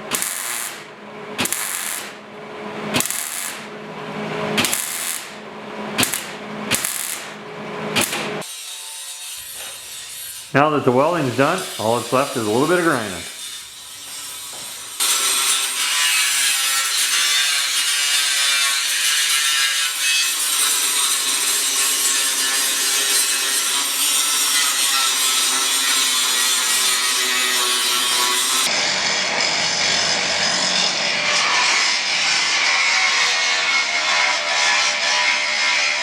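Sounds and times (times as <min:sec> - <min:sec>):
grinder grinding welds: 0:00.0 - 0:36.0.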